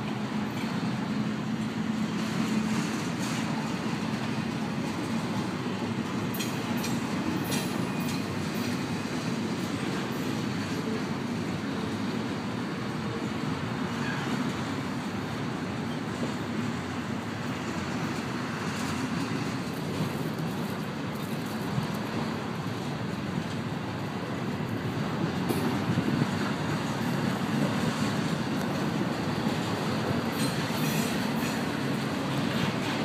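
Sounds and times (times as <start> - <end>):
train wheels rolling on rails: 0.0 - 33.0.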